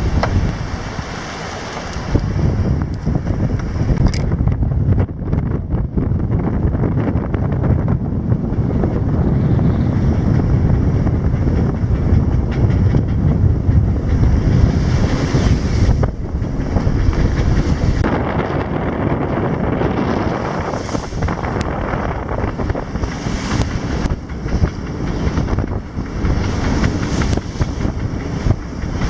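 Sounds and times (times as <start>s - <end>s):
waves rushing along hull: 0.0s - 29.0s
wind buffeting microphone: 0.0s - 29.0s.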